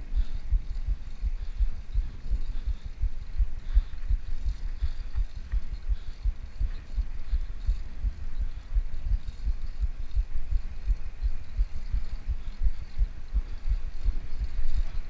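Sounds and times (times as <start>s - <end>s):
faint hiss: 0.0s - 15.0s
wind buffeting microphone: 0.0s - 15.0s.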